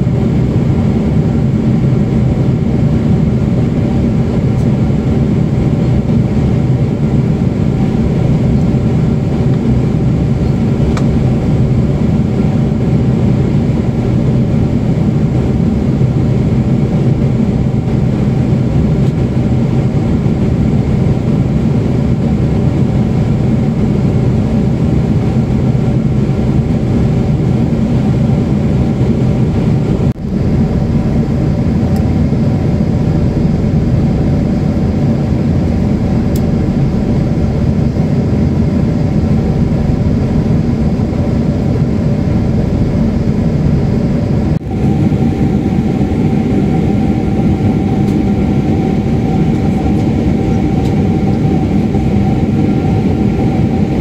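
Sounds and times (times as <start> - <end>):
airliner cabin drone: 0.0 - 54.0
steady hums and tones: 0.0 - 54.0.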